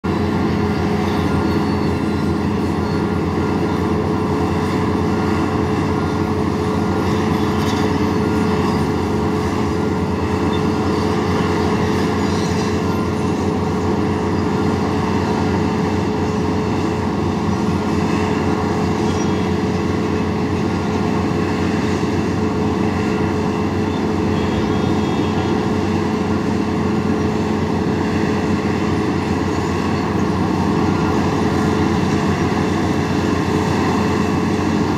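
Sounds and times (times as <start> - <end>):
excavator diesel engines droning: 0.0 - 34.9.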